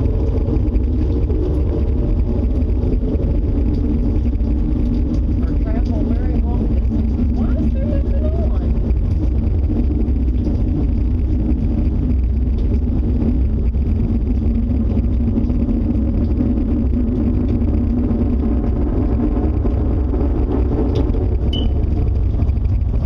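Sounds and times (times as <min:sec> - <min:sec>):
tornado wind roaring: 0:00.0 - 0:23.0.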